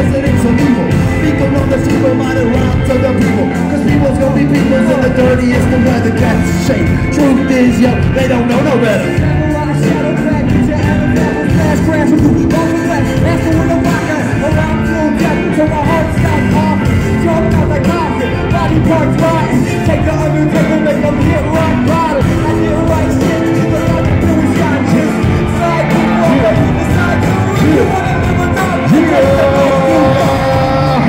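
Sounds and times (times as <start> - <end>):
live band playing: 0.0 - 31.0.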